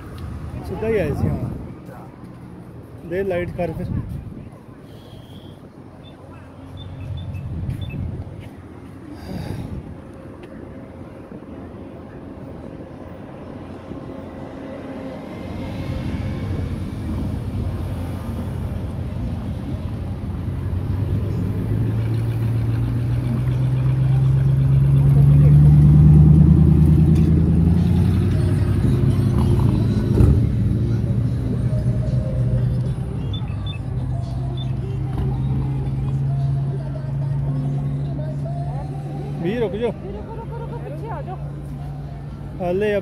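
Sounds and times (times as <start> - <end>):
vehicle engines running: 0.0 - 43.0.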